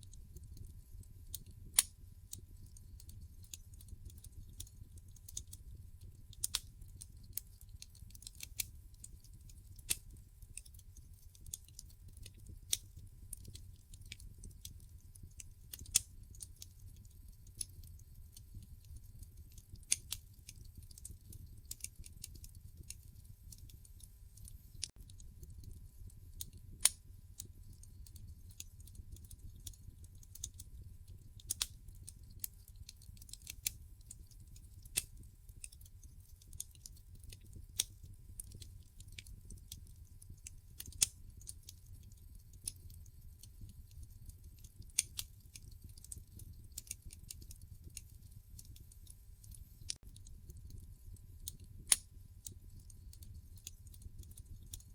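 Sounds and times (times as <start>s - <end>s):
low rumble of burning logs: 0.0s - 54.9s
wood fire crackling and popping: 0.0s - 54.9s.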